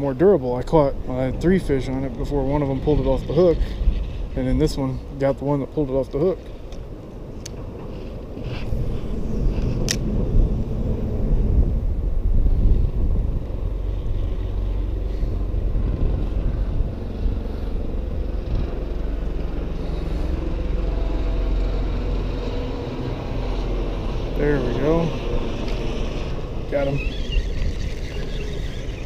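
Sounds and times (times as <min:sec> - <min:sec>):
traffic rumble on bridge: 0:00.0 - 0:29.0.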